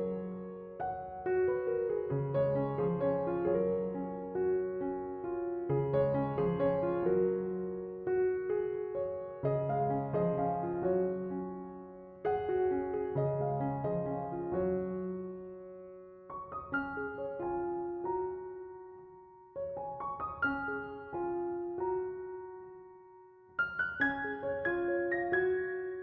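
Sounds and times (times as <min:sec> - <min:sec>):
soft piano music: 0:00.0 - 0:26.0.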